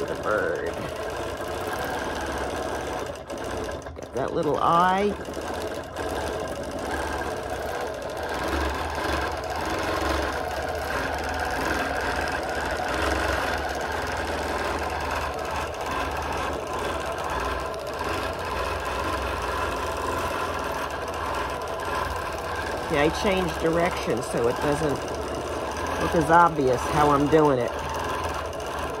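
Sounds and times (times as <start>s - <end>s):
quilting machine stitching: 0.0s - 29.0s.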